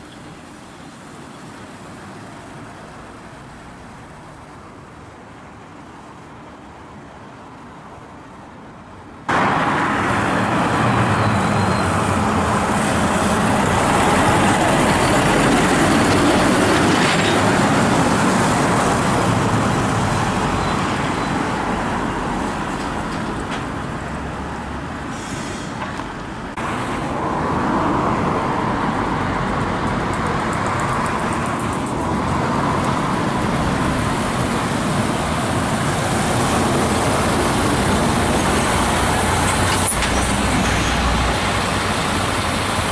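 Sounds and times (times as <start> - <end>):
diesel lorry engines passing: 0.0 - 42.9
tyres rushing on road: 0.0 - 42.9.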